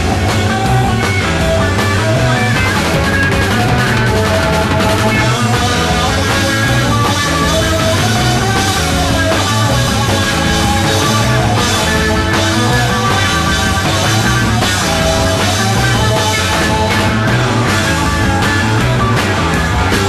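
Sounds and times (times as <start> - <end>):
rock band playing live: 0.0 - 20.0.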